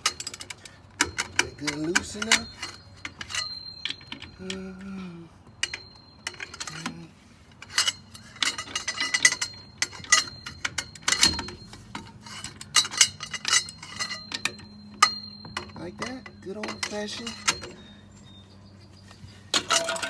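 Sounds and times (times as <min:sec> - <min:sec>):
wrench clinking on lug nuts: 0:00.0 - 0:20.0.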